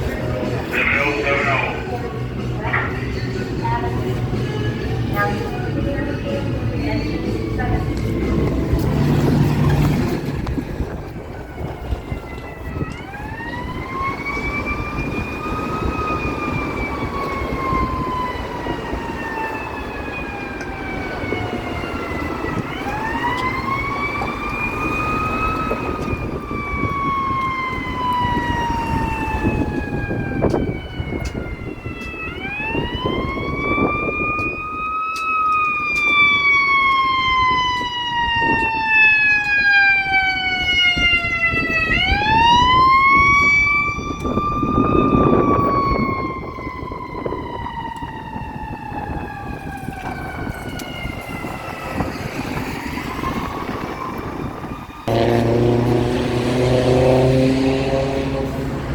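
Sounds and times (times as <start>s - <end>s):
emergency vehicle siren wailing: 0.0s - 58.9s
road traffic noise: 0.0s - 58.9s.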